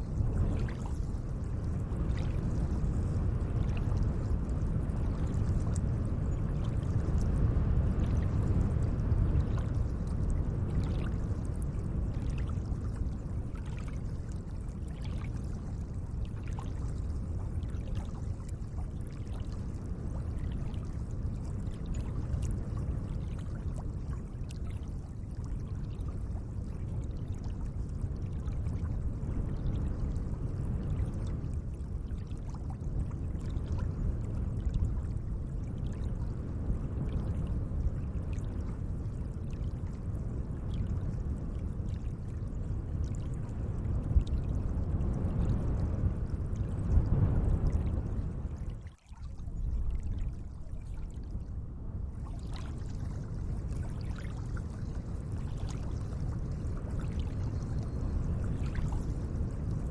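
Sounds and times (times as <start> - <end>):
small water splashes and drips: 0.1 - 45.8, 46.6 - 59.9.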